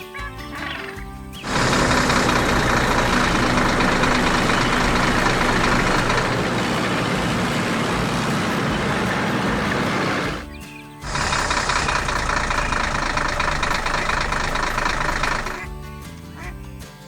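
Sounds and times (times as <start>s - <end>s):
heavy machine engine running: 1.4s - 15.7s.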